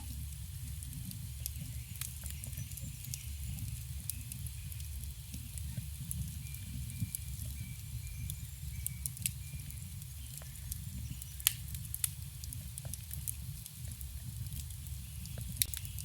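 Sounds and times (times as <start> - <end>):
campfire wood crackling: 0.0 - 16.0.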